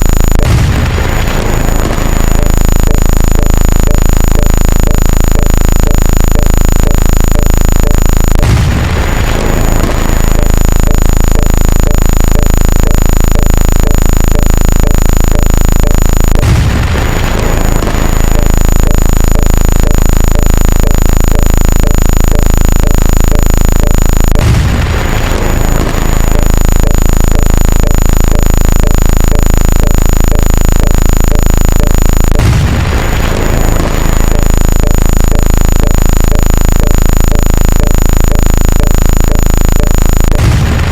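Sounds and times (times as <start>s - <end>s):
faint electronic blip: 0.0s - 40.6s
loud electronic buzz: 0.0s - 40.9s
thin high whine: 0.0s - 40.9s.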